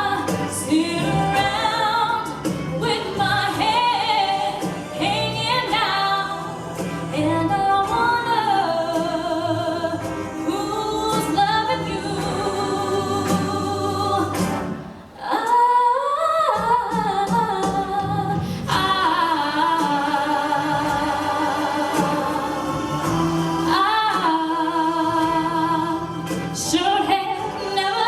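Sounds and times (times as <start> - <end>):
musical accompaniment: 0.0 - 28.0.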